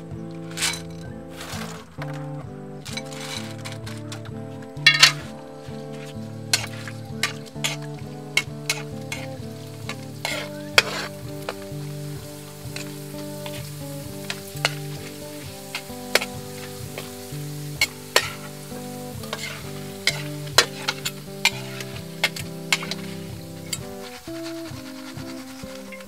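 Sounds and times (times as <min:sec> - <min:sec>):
squash slices sizzling in oil: 0:00.0 - 0:26.0
metal spatula scraping wok: 0:00.5 - 0:02.2, 0:02.9 - 0:26.0.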